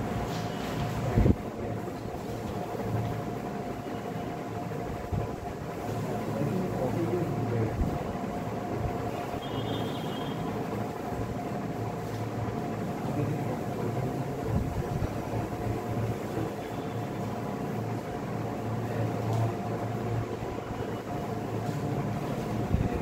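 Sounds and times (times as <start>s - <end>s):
low mechanical hum with whine: 0.0s - 23.0s.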